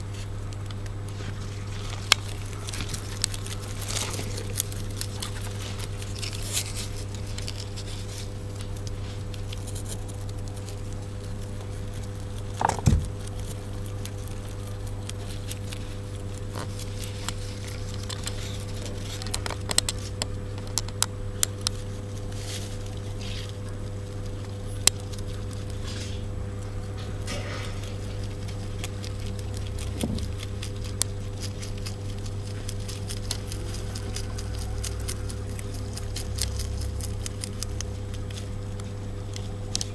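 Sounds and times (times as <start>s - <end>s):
rabbits crunching fodder: 0.0s - 39.9s
steady low hum: 0.0s - 39.9s.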